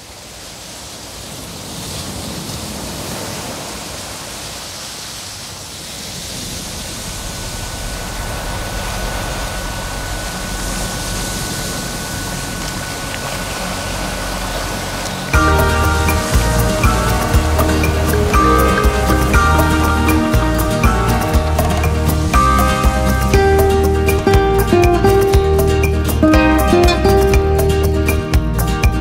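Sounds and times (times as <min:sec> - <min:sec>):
ocean surf: 0:00.0 - 0:29.0.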